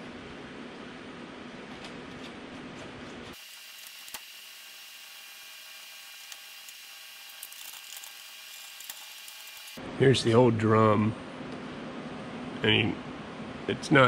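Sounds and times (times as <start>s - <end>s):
machine hum and hiss: 0.0s - 14.0s.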